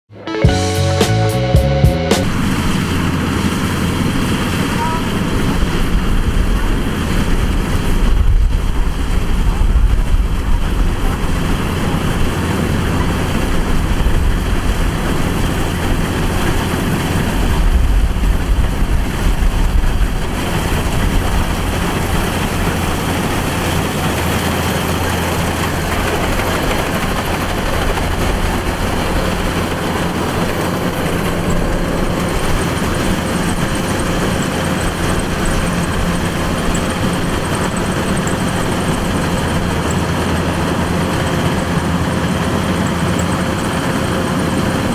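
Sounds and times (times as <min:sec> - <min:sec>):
broad rushing noise: 0:00.5 - 0:44.9
combine harvester engine drone: 0:02.0 - 0:44.9.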